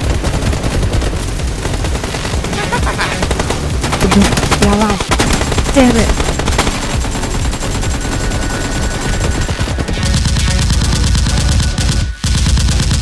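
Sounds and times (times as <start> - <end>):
rapid automatic gunfire: 0.0 - 13.0.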